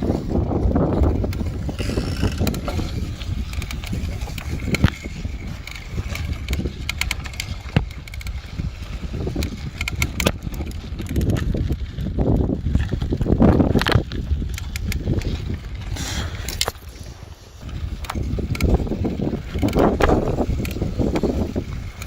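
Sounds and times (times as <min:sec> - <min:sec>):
bike crackling clicks: 0:00.0 - 0:22.0
low rumble of riding: 0:00.0 - 0:22.0.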